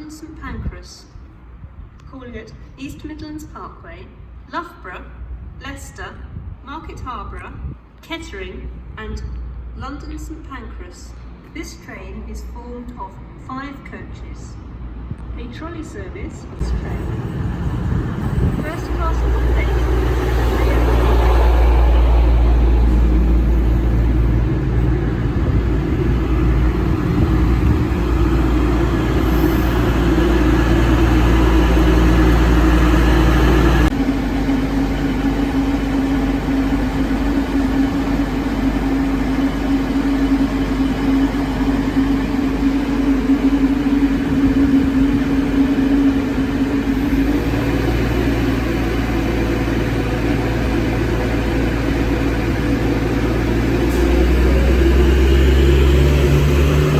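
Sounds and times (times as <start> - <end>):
diesel train engines running: 0.0 - 56.9.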